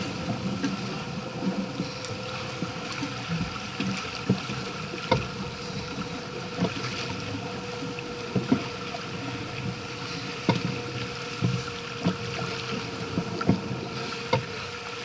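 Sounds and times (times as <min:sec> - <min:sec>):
faint steady hum: 0:00.0 - 0:15.0
water rushing along hull: 0:00.0 - 0:15.0
wind: 0:00.0 - 0:15.0.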